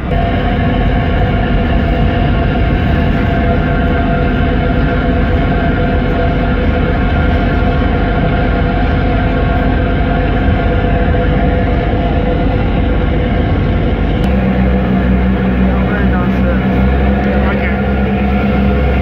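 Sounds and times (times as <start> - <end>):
ferry engines humming: 0.0 - 19.0.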